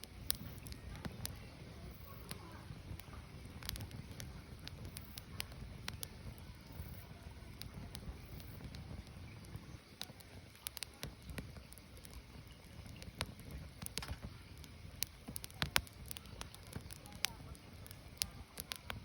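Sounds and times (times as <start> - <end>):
firewood crackling and popping: 0.0 - 19.0
low fire noise: 0.0 - 19.0.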